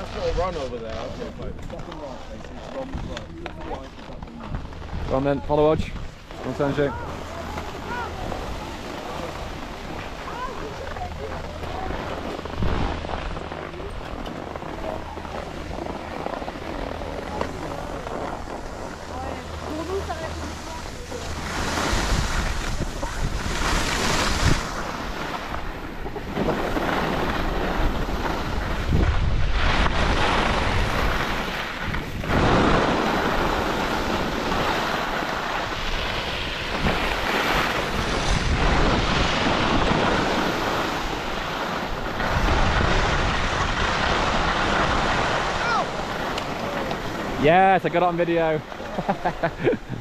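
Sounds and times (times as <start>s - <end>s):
skis scraping on snow: 0.0s - 50.0s
wind buffeting microphone: 2.8s - 47.4s.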